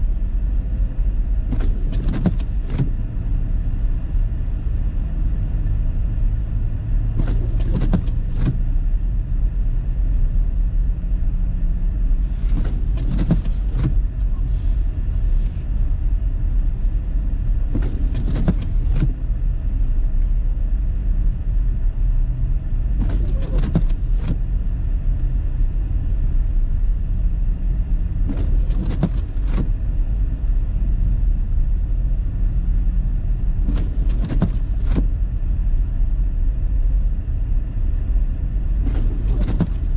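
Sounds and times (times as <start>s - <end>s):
car engine and tyres rumble: 0.0s - 39.9s.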